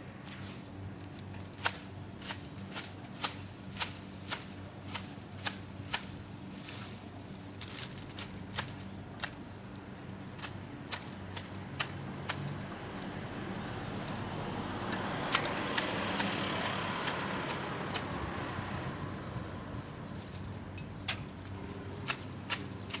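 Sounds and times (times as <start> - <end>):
pruning shears snipping twigs: 0.2 - 9.5, 10.3 - 12.7, 13.6 - 18.4, 19.4 - 23.0.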